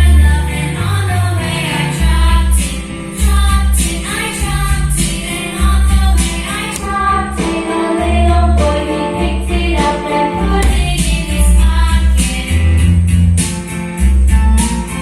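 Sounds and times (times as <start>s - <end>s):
song with singing and heavy bass: 0.0s - 15.0s.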